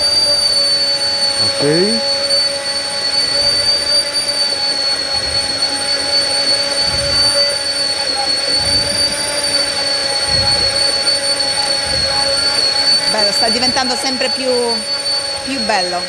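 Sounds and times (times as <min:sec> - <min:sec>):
immersion blender whining: 0:00.0 - 0:16.0.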